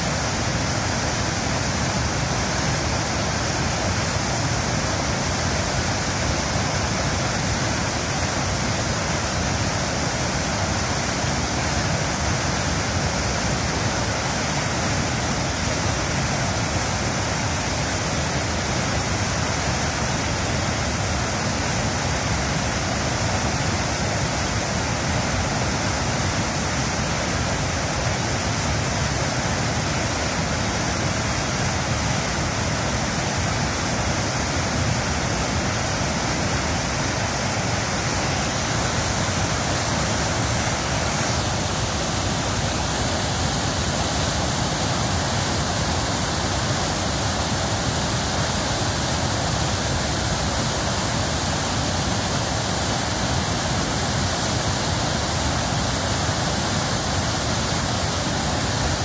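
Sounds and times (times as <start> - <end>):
river water rushing over weir: 0.0 - 59.0.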